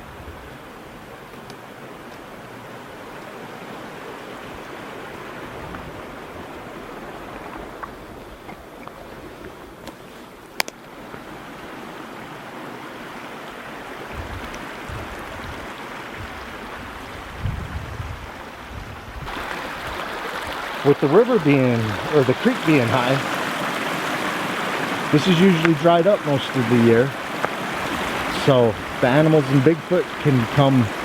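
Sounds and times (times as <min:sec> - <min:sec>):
creek water rushing: 0:00.0 - 0:17.5, 0:19.2 - 0:31.0.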